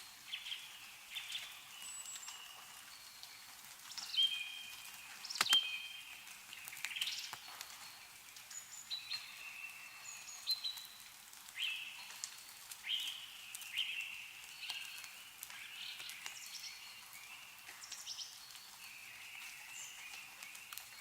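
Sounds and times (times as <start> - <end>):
meltwater dripping: 0.0 - 21.0.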